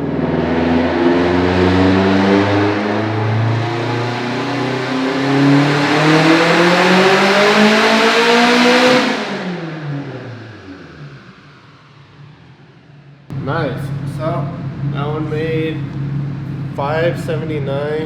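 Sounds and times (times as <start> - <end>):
turbocharged engine revving: 0.0 - 12.7, 13.3 - 18.0
engine winding down: 0.0 - 18.0.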